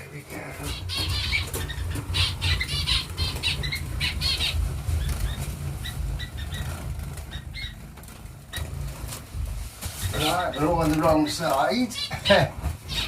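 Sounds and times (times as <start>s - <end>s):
steady low rumble: 0.0s - 11.5s
finches fluttering wings: 0.0s - 13.0s.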